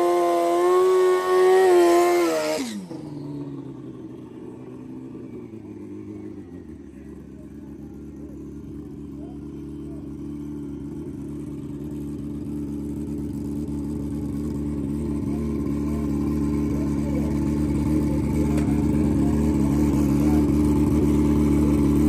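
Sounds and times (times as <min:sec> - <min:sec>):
motorcycle engine idling: 0:02.8 - 0:22.0.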